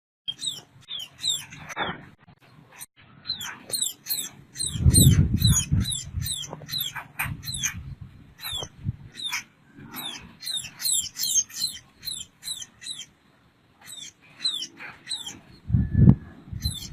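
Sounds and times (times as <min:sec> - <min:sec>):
bird chirping: 0:00.3 - 0:13.2, 0:13.8 - 0:16.9.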